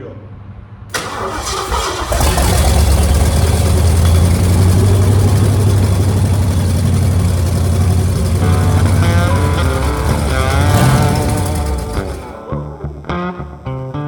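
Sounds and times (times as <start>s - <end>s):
engine idling with deep rumble: 0.9s - 12.4s.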